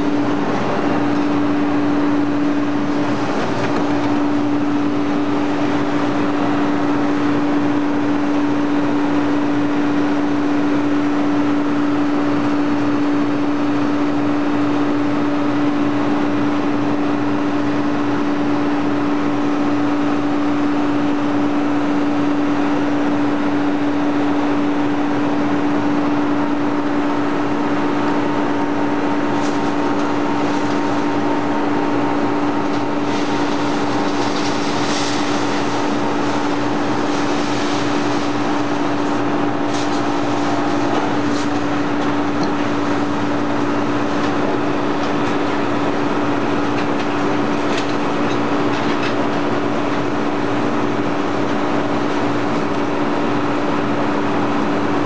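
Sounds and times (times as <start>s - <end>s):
hydraulic pump motor humming: 0.0s - 55.0s.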